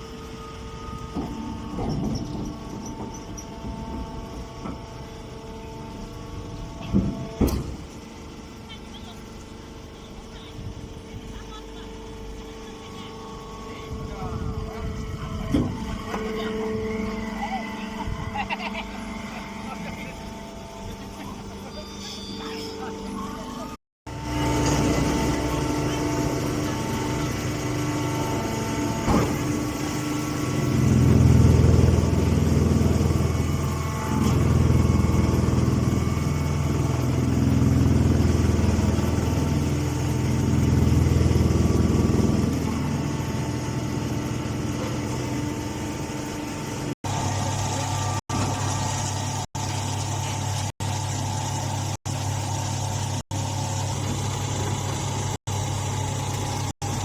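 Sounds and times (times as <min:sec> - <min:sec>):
baler motor running: 0:00.0 - 0:57.0.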